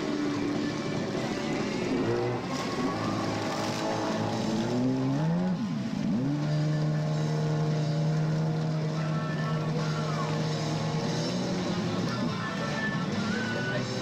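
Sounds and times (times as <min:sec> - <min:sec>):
jet ski engine whining: 0:00.0 - 0:14.0.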